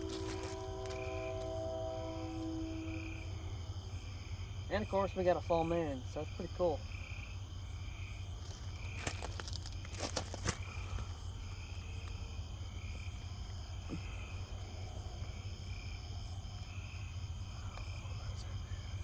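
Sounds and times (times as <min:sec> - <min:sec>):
crickets and insects trilling: 0:00.0 - 0:19.0
pulsing insect call: 0:00.0 - 0:19.0
steady low hum: 0:00.0 - 0:19.0.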